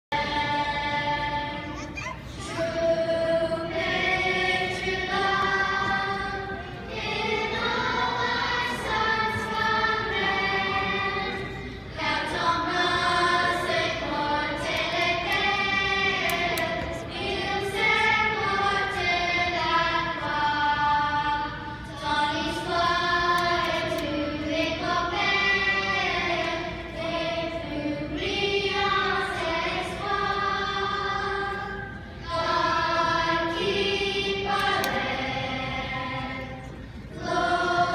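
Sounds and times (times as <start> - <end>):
children's choir singing: 0.1 - 37.9.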